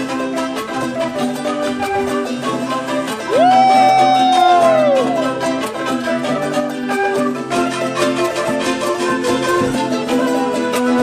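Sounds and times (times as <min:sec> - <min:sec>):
plucked and bowed strings music: 0:00.0 - 0:11.0.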